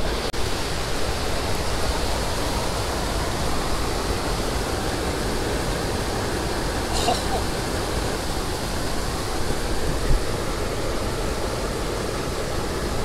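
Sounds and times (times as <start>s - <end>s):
water rushing over waterfall: 0.0s - 13.0s.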